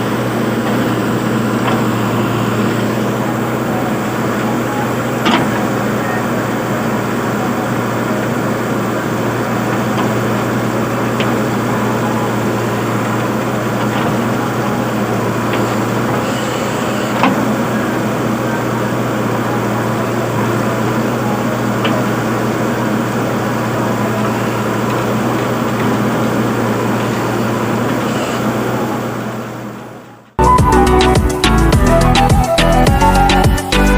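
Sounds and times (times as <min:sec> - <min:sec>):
motor humming: 0:00.0 - 0:33.9.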